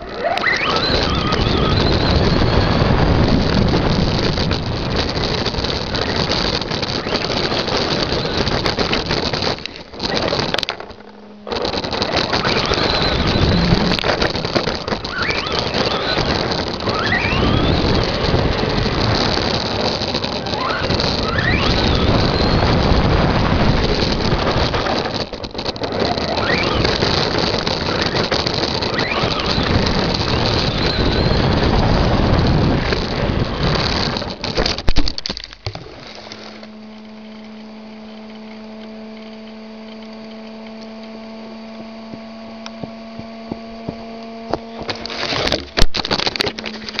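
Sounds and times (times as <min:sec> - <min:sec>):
electric motor whine: 0:00.0 - 0:47.0
tyre and ground noise: 0:00.0 - 0:47.0.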